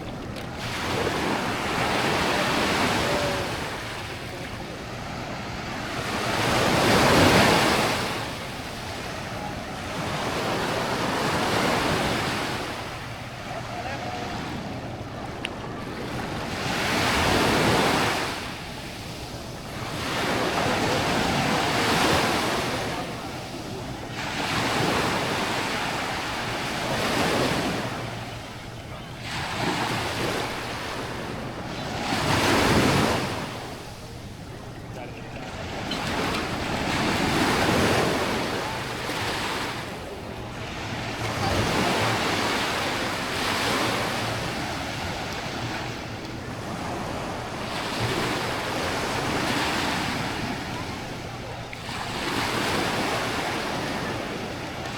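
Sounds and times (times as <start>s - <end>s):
small waves breaking on shore: 0.0s - 54.9s.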